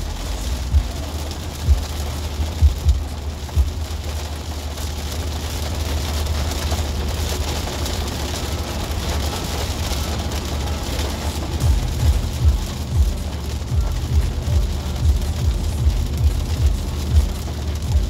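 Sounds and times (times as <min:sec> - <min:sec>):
heavy rain on a car: 0:00.0 - 0:18.0
steady deep rumble: 0:00.0 - 0:18.0.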